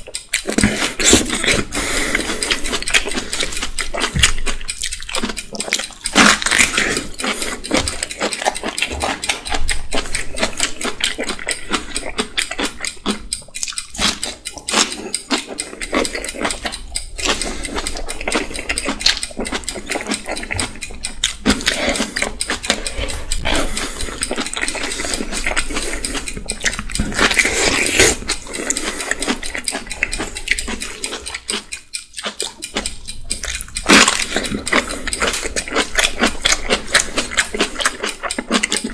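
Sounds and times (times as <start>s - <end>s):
wet chewing and crunching: 0.0s - 38.9s.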